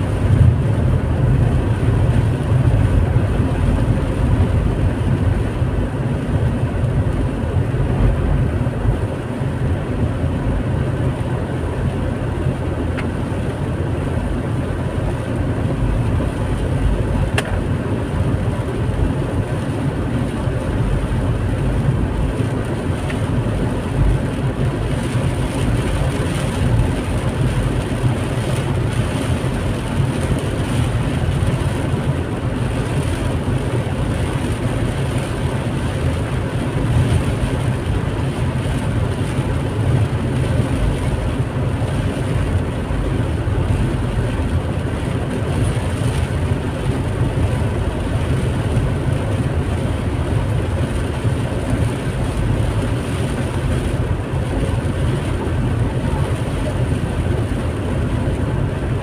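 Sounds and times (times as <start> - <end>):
rain on car: 0.0 - 59.0
tyres on wet road: 0.0 - 59.0.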